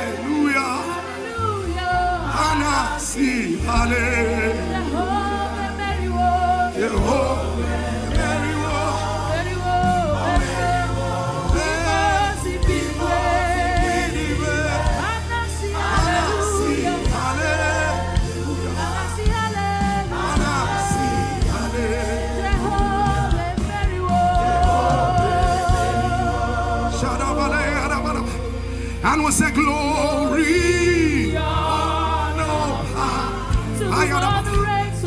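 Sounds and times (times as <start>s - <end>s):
band accompaniment: 0.0s - 35.0s
steady bass notes: 0.0s - 35.0s
voices singing: 0.0s - 35.0s.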